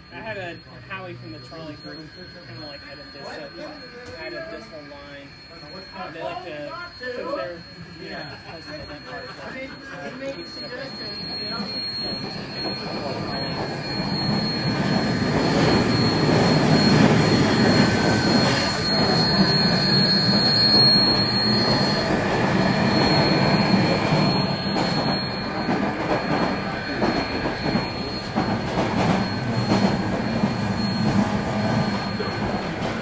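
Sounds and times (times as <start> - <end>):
thin high-pitched whine: 0.0 - 33.0.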